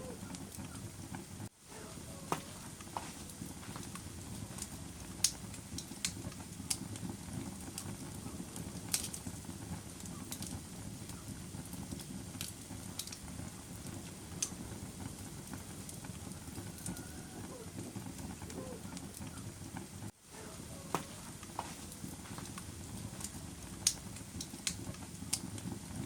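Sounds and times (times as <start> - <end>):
fire crackling and popping: 0.0 - 26.0
fire rumbling in fireplace: 0.0 - 26.0.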